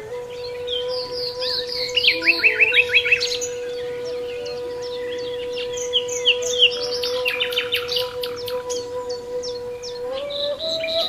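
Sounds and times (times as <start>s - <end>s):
reed flute long note: 0.0s - 11.0s
songbirds chirping: 0.0s - 11.0s.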